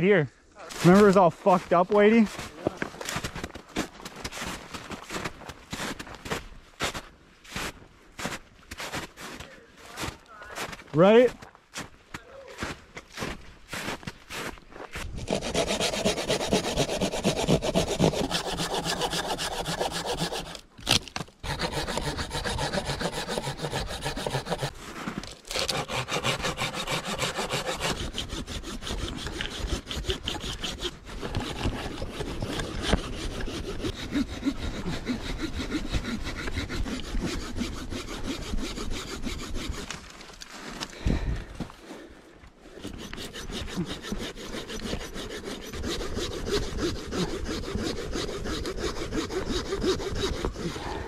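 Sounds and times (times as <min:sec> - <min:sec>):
hand saw cutting wood: 0:00.7 - 0:06.1, 0:13.2 - 0:40.4, 0:42.7 - 0:51.0.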